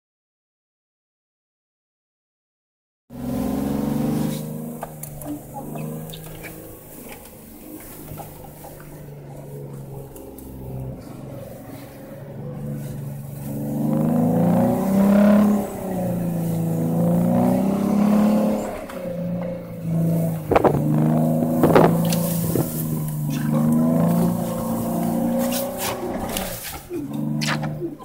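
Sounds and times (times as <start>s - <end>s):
car engine revving: 3.1s - 28.0s.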